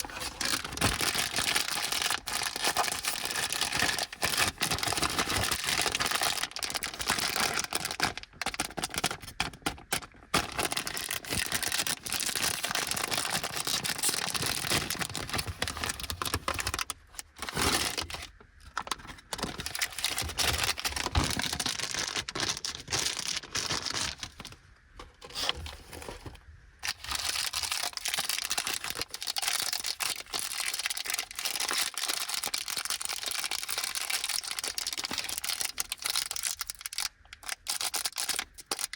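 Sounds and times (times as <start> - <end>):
plastic wrappers crinkling and tearing: 0.0 - 24.6, 25.2 - 38.9.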